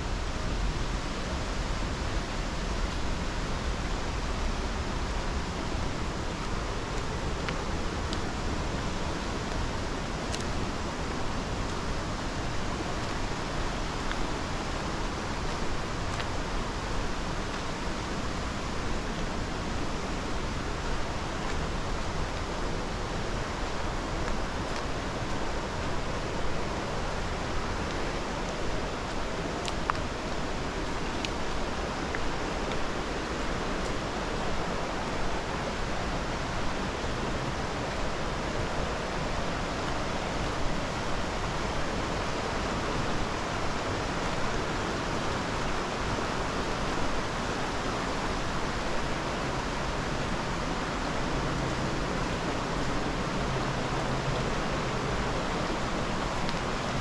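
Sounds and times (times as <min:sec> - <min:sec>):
rushing river and waterfall: 0:00.0 - 0:57.0.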